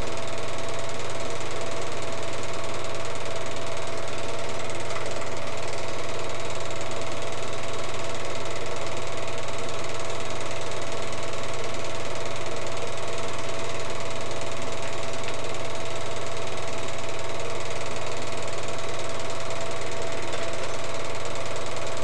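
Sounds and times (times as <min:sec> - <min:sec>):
film projector running: 0:00.0 - 0:22.0.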